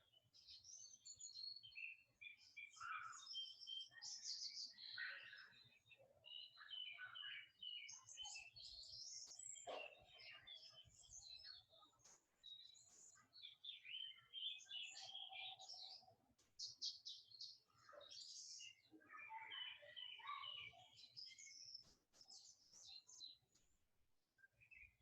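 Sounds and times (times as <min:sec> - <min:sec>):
faint birdsong chirps: 0:00.0 - 0:25.0.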